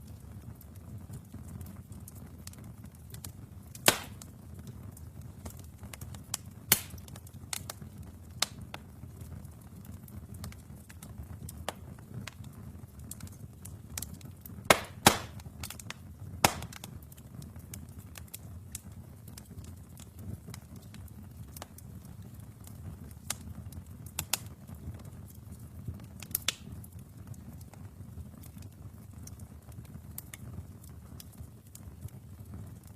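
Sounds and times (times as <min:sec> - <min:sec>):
fire crackling and popping: 0:00.0 - 0:32.9
rumble of flames: 0:00.0 - 0:32.9.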